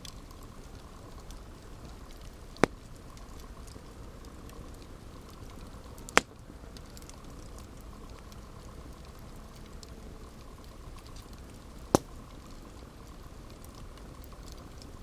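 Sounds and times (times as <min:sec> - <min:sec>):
campfire burning: 0:00.0 - 0:15.0
loud fire pops: 0:00.0 - 0:15.0.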